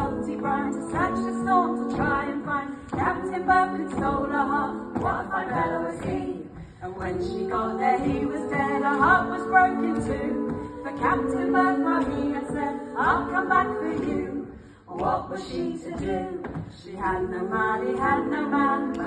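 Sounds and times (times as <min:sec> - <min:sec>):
women singing a cappella: 0:00.0 - 0:19.0.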